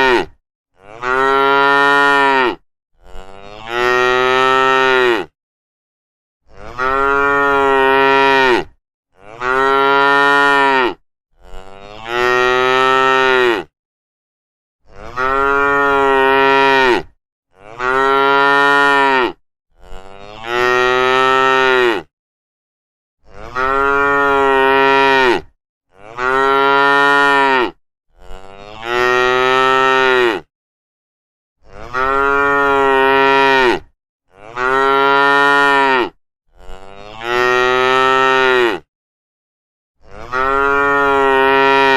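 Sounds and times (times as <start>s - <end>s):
cow mooing: 0.0s - 5.3s, 6.5s - 13.7s, 14.9s - 22.1s, 23.2s - 30.5s, 31.6s - 38.9s, 40.0s - 41.9s.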